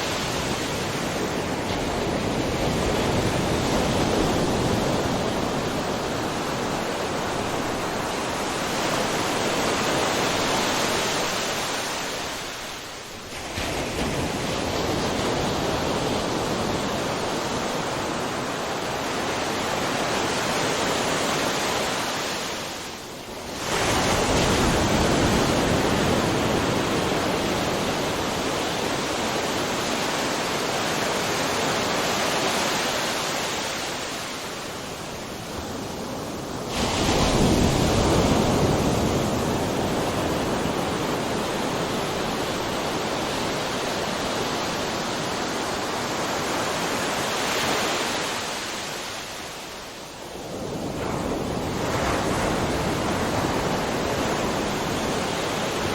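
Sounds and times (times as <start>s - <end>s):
ocean waves crashing: 0.0s - 55.9s
surf rushing: 0.0s - 55.9s.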